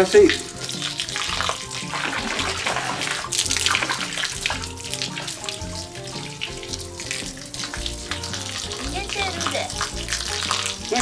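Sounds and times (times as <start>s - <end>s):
background music: 0.0s - 11.0s
bath water pouring and splashing: 0.0s - 11.0s.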